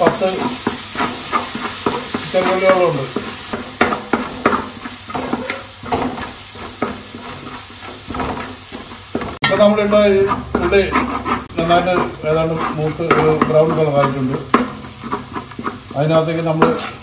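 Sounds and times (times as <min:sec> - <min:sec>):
food sizzling in oil: 0:00.0 - 0:17.0
metal spatula scraping pot: 0:00.0 - 0:17.0.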